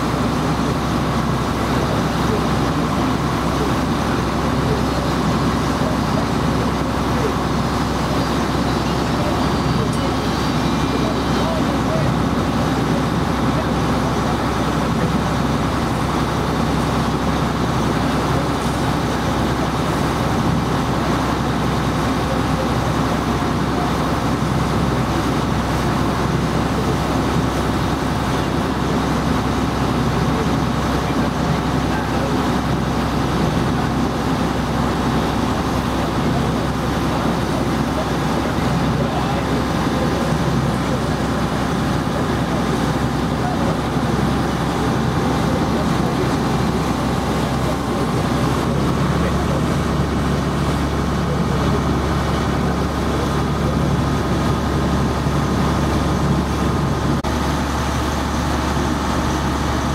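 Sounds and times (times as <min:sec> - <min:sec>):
water bus engine drone: 0:00.0 - 0:59.9.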